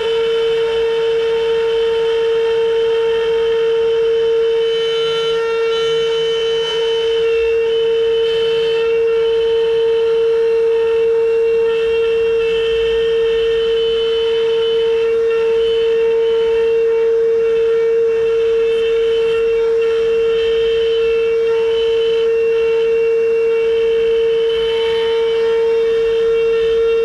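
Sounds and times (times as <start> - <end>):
cnc router spindle whine: 0.0 - 27.0
router bit cutting wood: 0.0 - 27.0.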